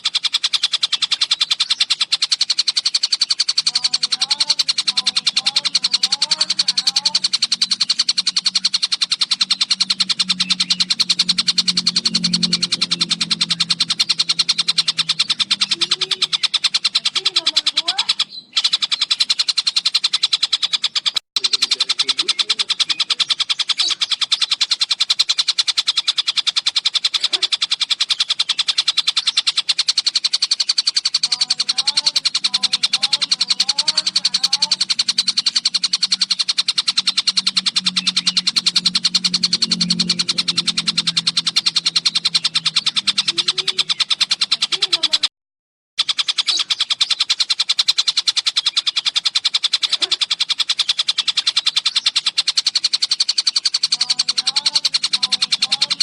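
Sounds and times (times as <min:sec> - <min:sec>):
bird rattling trill: 0:00.0 - 0:45.3, 0:46.0 - 0:56.0.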